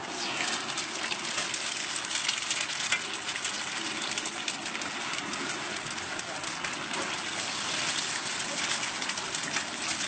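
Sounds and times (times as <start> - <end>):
eggs sizzling in oil: 0.0 - 10.0
oil crackling pops: 0.0 - 10.0.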